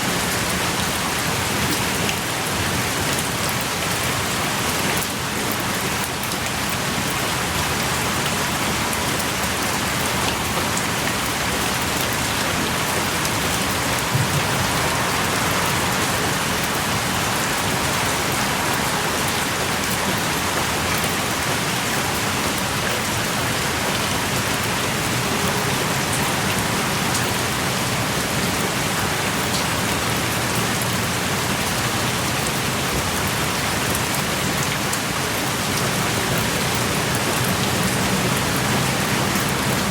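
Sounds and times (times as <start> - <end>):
close raindrops striking: 0.0 - 39.9
heavy rain pouring: 0.0 - 39.9.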